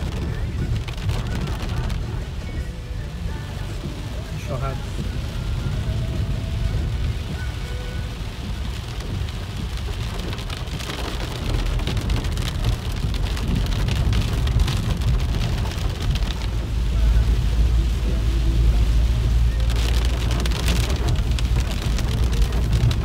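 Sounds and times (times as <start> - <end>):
heavy rain on car roof: 0.0 - 23.0
vehicle rumbling on rough road: 0.0 - 23.0.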